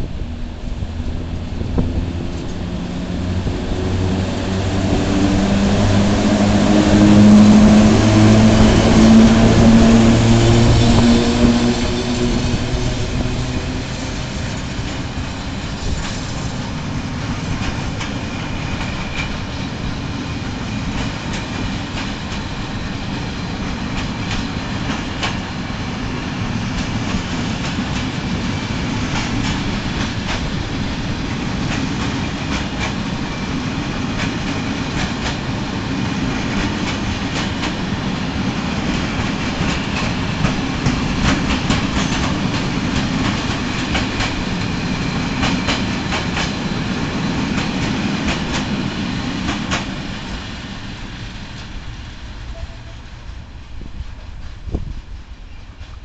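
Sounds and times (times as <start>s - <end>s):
electric locomotive motors humming: 0.0s - 56.0s.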